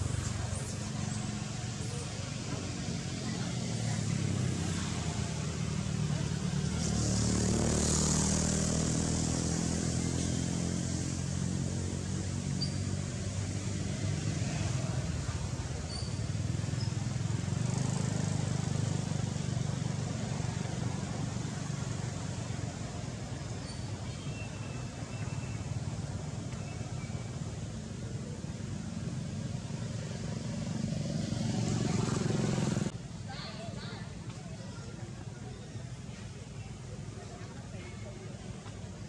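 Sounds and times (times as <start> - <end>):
vehicle engines passing: 0.0 - 39.0.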